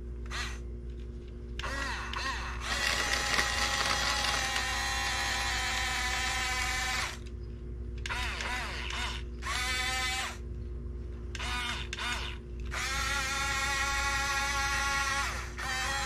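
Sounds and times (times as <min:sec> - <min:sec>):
electric motors whining: 0:00.2 - 0:00.7, 0:01.6 - 0:07.4, 0:08.0 - 0:10.5, 0:11.3 - 0:16.0.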